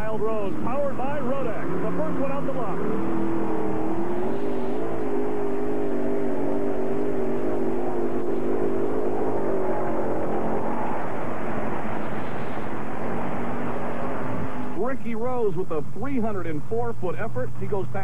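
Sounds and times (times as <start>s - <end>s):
pulling tractor engines droning: 0.0s - 18.0s.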